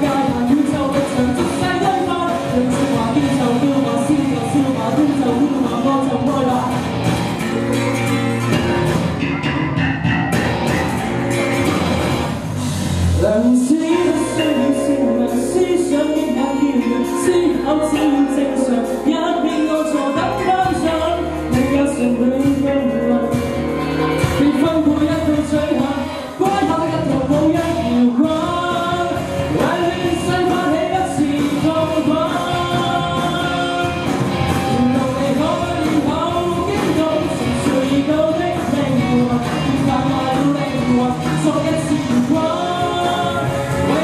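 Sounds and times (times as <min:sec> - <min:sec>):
man singing into microphone: 0:00.0 - 0:07.0, 0:13.2 - 0:44.0
instrumental accompaniment: 0:00.0 - 0:44.0.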